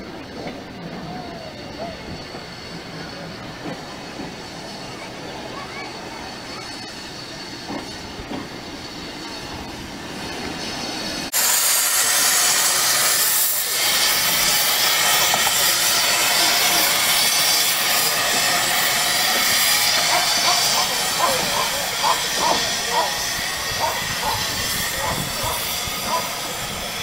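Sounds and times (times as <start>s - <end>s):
steam hissing from engine: 0.0s - 27.0s
steam locomotive rumble: 0.0s - 27.0s.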